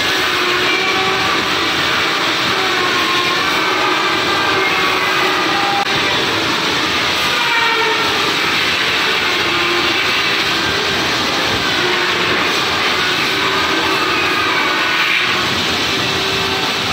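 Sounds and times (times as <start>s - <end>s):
polishing machine whooshing: 0.0s - 16.9s.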